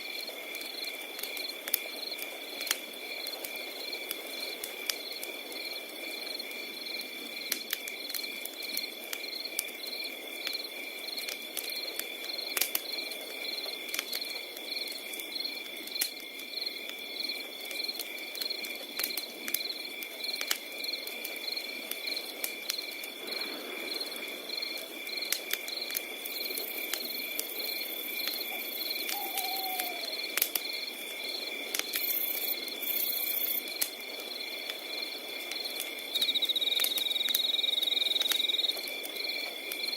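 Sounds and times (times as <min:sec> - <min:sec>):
crickets chirping: 0:00.0 - 0:39.9
wood fire crackling: 0:00.0 - 0:39.9.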